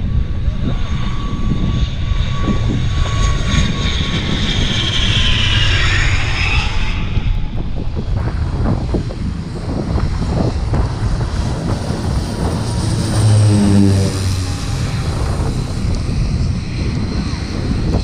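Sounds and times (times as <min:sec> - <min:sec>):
propeller plane flying overhead: 0:00.0 - 0:18.0.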